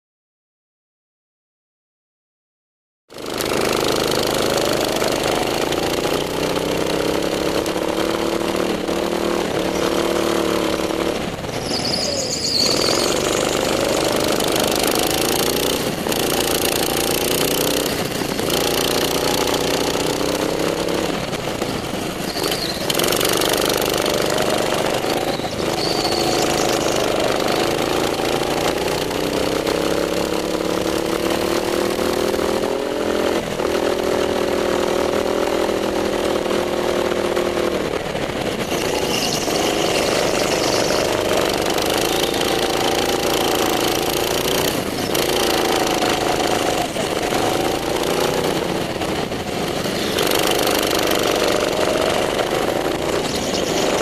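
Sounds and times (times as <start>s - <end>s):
go-kart engine revving: 3.1s - 54.0s.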